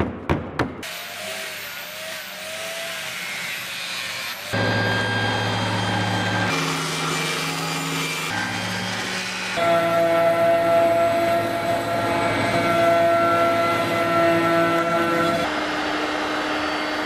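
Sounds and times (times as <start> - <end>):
angle grinder sanding wood: 0.8 - 17.0
woodworking machine humming: 0.9 - 17.0.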